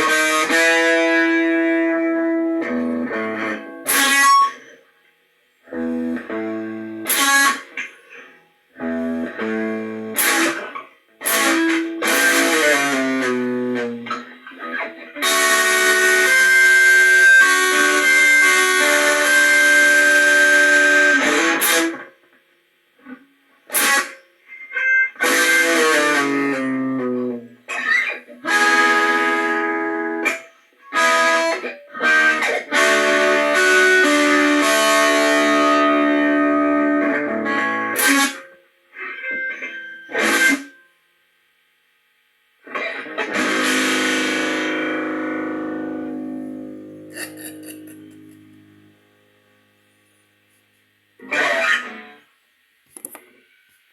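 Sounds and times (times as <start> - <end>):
guitar playing blues chords: 0.0 - 4.9, 5.6 - 22.2, 23.0 - 40.8, 42.6 - 49.8, 51.2 - 52.3.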